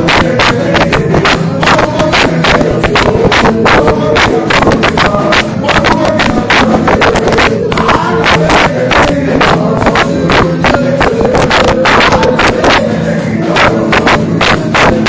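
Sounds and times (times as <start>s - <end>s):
crowd voices: 0.0s - 15.0s
fast praise music: 0.0s - 15.0s.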